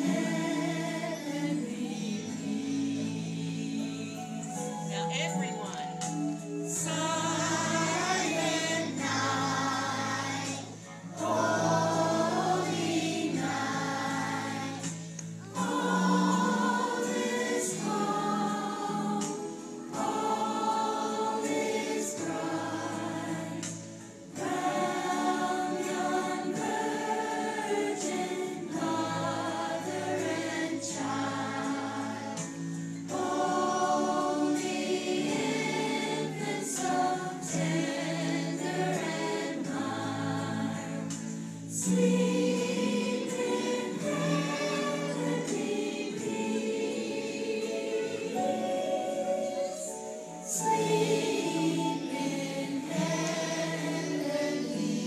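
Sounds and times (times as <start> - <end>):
children's choir singing: 0.0 - 4.9, 6.0 - 55.0
low musical accompaniment: 0.0 - 55.0.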